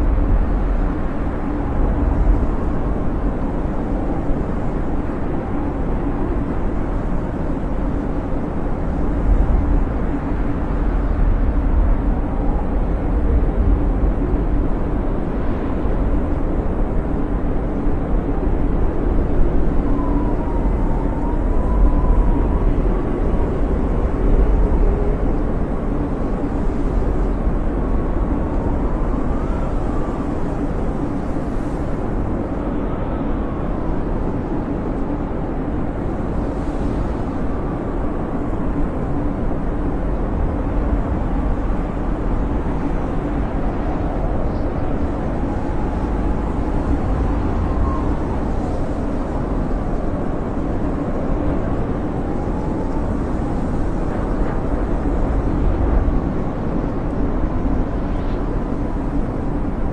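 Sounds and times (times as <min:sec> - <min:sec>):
wind howling: 0:00.0 - 0:59.9.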